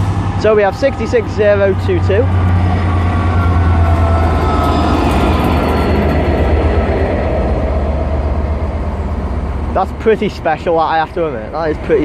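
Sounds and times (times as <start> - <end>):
diesel locomotive engine drone: 0.0 - 12.0
train rumbling past: 0.0 - 12.0.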